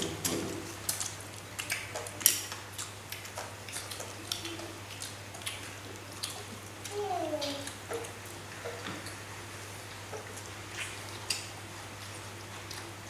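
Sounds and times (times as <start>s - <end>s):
meat being torn and chewed: 0.0s - 9.2s, 9.8s - 13.0s.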